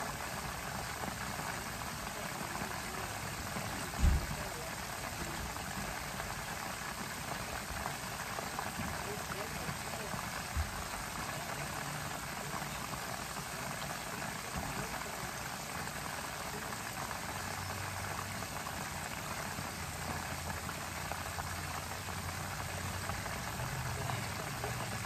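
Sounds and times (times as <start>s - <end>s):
chicken sizzling in skillet: 0.0s - 25.0s.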